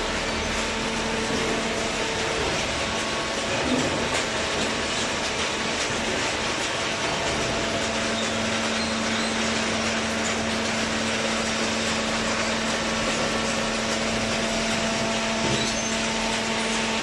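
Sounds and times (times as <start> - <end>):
cardboard baler machine hum: 0.0 - 17.0.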